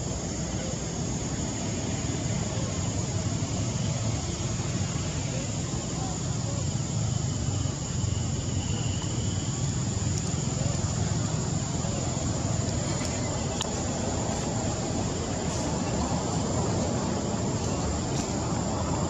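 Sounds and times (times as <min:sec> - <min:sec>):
even hiss: 0:00.0 - 0:19.0.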